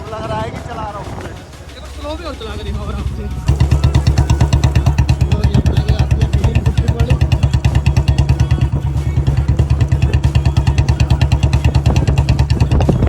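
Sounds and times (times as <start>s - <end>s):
motorcycle engine thumping: 0.0s - 13.0s.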